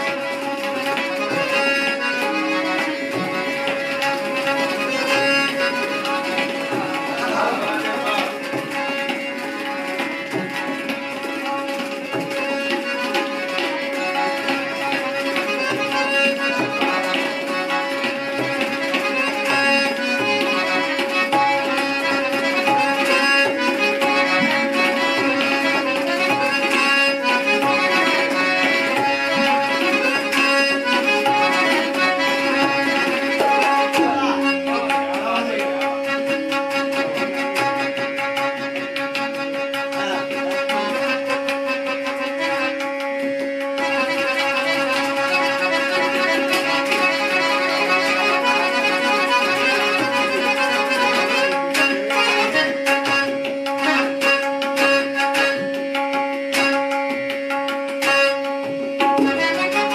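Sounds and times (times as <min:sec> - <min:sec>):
harmonium melody with drone: 0:00.0 - 0:59.9
tabla strokes: 0:00.0 - 0:59.9.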